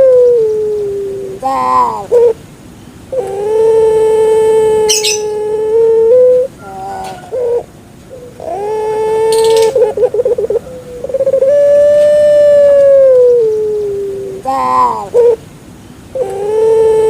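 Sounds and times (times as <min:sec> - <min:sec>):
dove cooing: 0:00.0 - 0:02.4, 0:03.1 - 0:15.4, 0:16.1 - 0:17.0.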